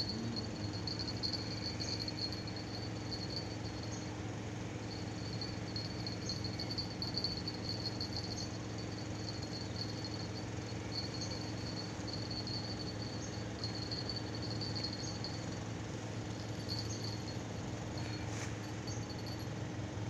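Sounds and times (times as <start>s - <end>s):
insects trilling: 0.0s - 19.5s
low steady hum: 0.0s - 20.0s.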